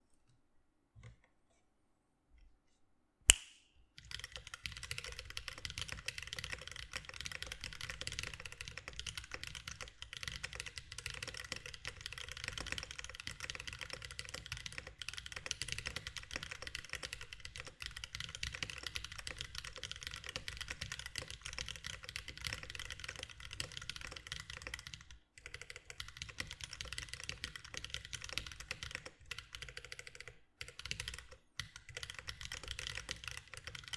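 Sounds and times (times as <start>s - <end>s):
mechanical keyboard typing: 4.0s - 33.9s.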